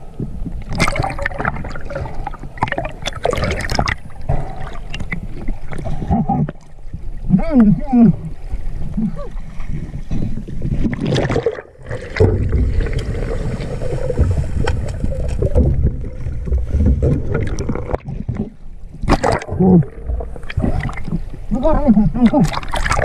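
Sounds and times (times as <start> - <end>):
muffled underwater churning rumble: 0.0 - 23.0
underwater knocks and clicks: 0.2 - 7.7, 10.0 - 21.4.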